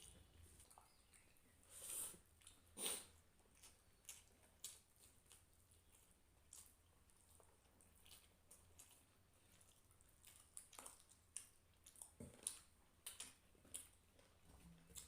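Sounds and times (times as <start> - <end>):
person chewing with mouth smacks: 0.0 - 15.0.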